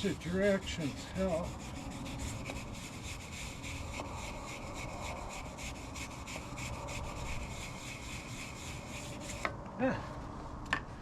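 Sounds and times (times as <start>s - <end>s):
wire brush scrubbing metal: 0.0s - 9.5s.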